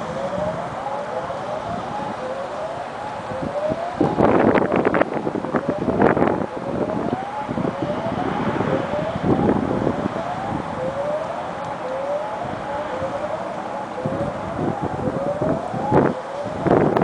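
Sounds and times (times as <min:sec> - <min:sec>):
distant whooping warning siren: 0:00.0 - 0:17.0
wind buffeting microphone: 0:00.0 - 0:17.0.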